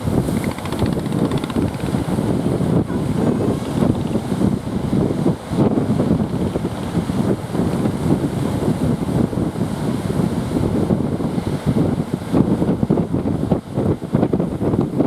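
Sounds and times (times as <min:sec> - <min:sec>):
ocean surf: 0:00.0 - 0:14.6
wind buffeting microphone: 0:00.0 - 0:15.0.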